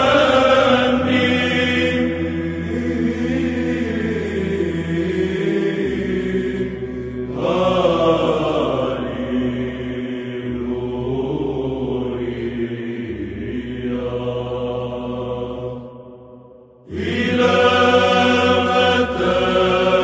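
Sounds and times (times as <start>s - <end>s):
slow vocal chant: 0.0s - 20.0s
steady low drone: 0.0s - 20.0s.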